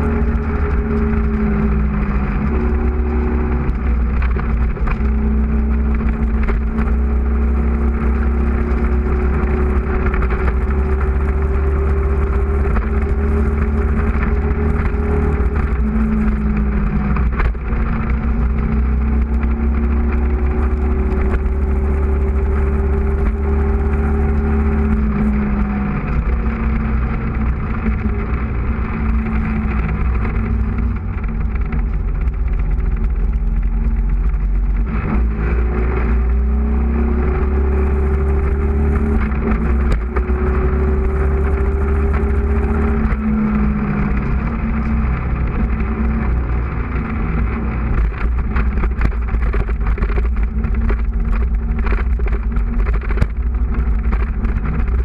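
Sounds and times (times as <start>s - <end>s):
motorcycle engine accelerating: 0.0s - 55.0s
wind rumble on microphone: 0.0s - 55.0s.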